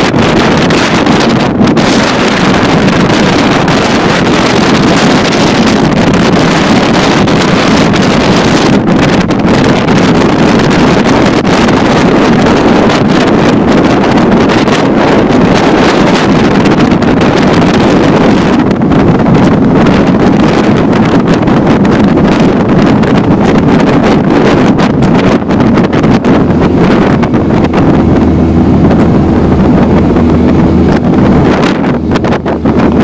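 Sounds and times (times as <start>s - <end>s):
wind noise on microphone: 0.0s - 33.0s.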